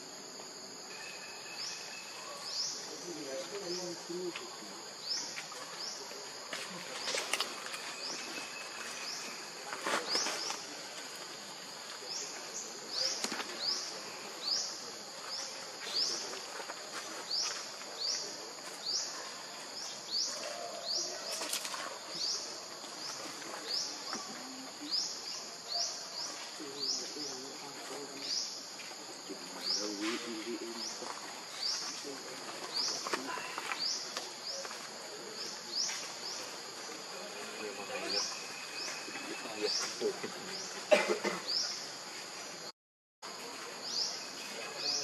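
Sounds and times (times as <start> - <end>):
insect chirp rising: 0.0 - 40.8
insects hissing: 0.0 - 42.7.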